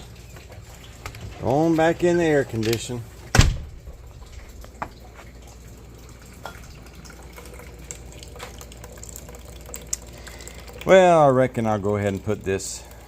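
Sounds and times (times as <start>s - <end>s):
coolant trickling into a bucket: 0.0s - 13.0s.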